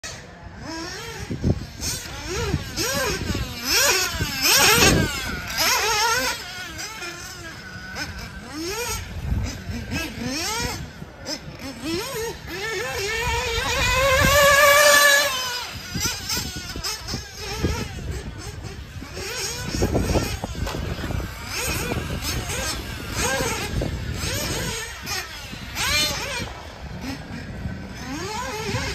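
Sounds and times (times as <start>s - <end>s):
rc car motors whining: 0.0s - 28.9s.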